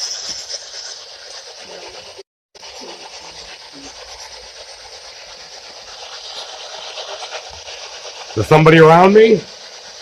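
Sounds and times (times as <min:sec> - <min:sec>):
steady hissing noise: 0:00.0 - 0:10.0.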